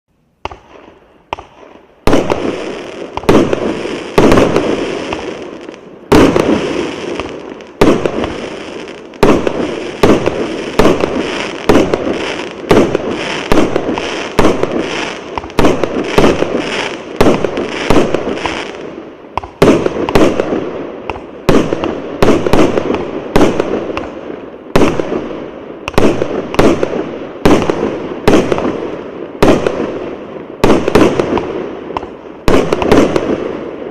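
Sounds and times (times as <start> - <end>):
faint firework pops: 0.4 - 8.4, 9.2 - 18.7, 19.4 - 24.2, 25.8 - 28.7, 30.6 - 33.4
fireworks bangs with crackle: 0.4 - 33.9.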